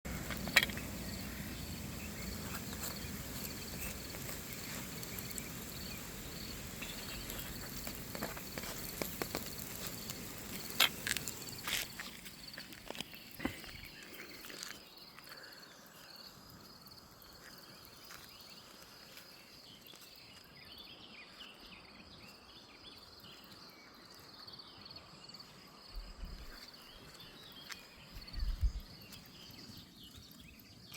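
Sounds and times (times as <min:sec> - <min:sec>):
insects trilling: 0:00.1 - 0:30.9.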